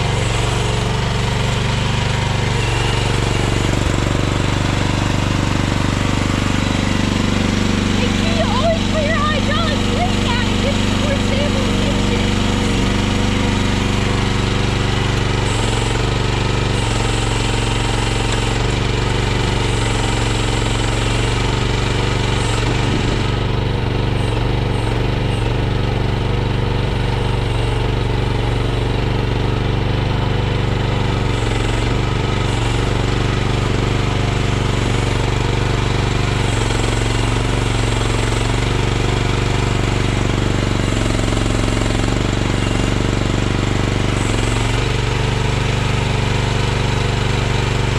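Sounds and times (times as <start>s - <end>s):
mini excavator engine running: 0.0s - 47.9s.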